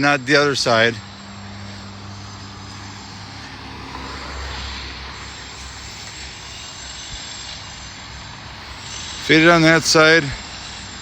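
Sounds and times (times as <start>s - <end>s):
low engine drone: 0.0s - 11.0s
outdoor noise: 0.0s - 11.0s.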